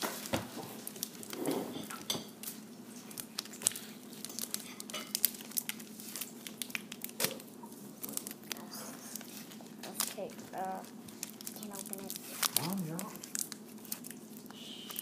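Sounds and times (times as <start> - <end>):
wrapped chocolates clicking: 0.0 - 15.0.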